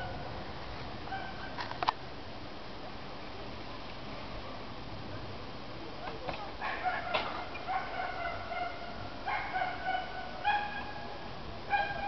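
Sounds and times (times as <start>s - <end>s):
wind through leafy trees: 0.0s - 12.0s.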